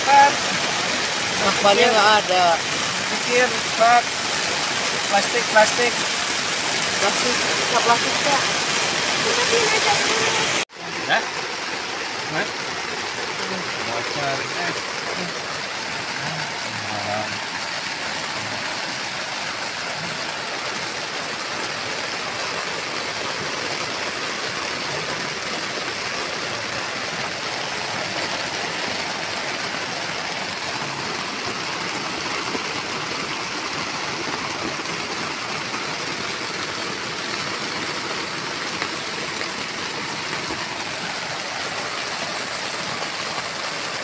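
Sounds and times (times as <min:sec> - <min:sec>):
heavy rain on a tent: 0:00.0 - 0:44.0.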